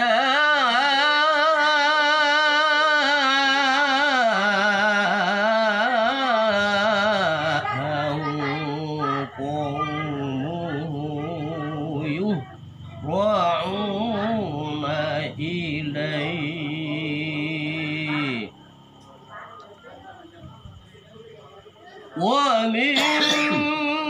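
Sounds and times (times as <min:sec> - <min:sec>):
man chanting melodically: 0:00.0 - 0:18.9, 0:22.2 - 0:24.0.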